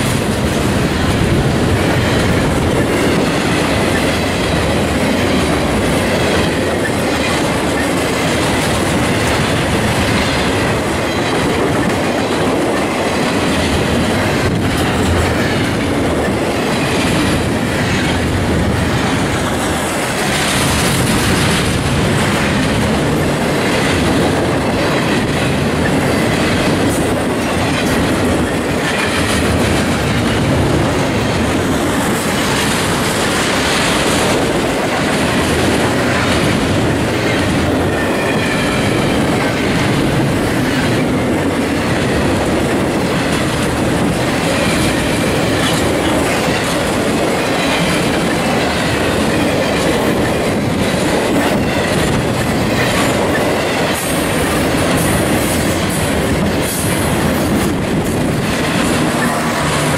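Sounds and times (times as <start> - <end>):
railroad cars rolling past: 0.0 - 59.9.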